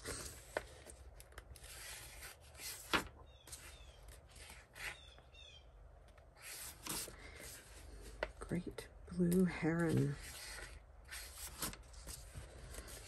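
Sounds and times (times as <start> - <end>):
paper pages rustling: 0.0 - 5.0, 6.3 - 8.4, 9.2 - 13.0.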